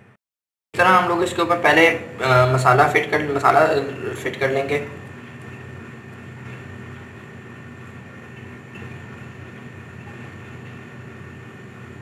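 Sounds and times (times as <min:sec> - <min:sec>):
machine hum: 0:00.8 - 0:12.0
thin high whine: 0:00.8 - 0:12.0.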